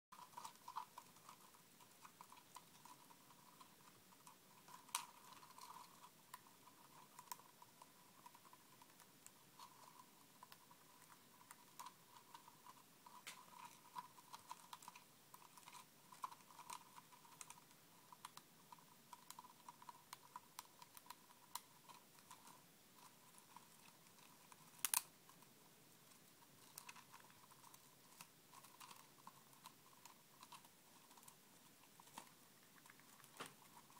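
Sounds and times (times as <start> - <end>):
hamster gnawing on wicker: 0.1 - 33.9.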